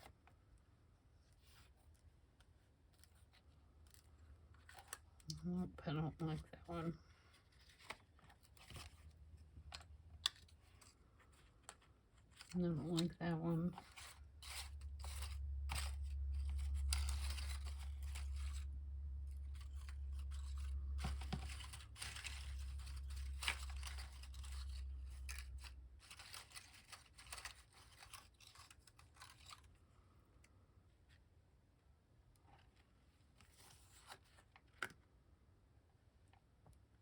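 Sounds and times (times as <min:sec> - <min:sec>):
low steady hum: 0:00.0 - 0:37.0
paper and card rustling: 0:01.2 - 0:30.0, 0:32.5 - 0:34.9.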